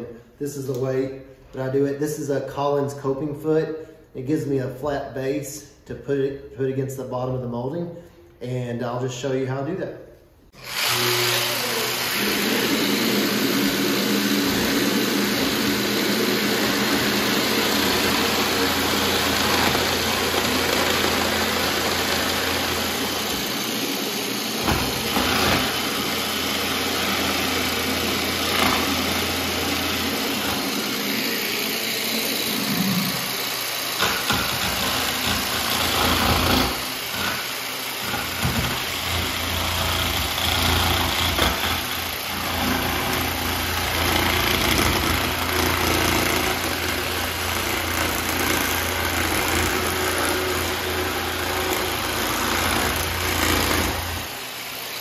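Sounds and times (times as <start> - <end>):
jigsaw cutting wood: 10.5 - 55.0.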